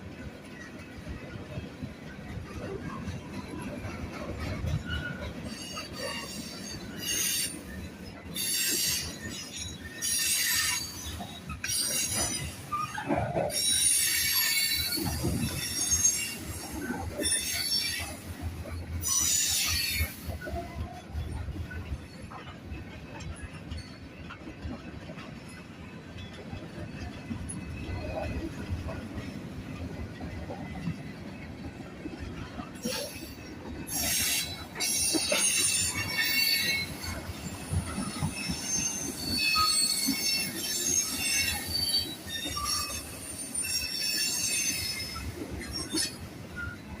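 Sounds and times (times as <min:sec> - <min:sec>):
freight cars rumbling on rails: 0:00.0 - 0:47.0
steel wheels squealing: 0:00.5 - 0:47.0.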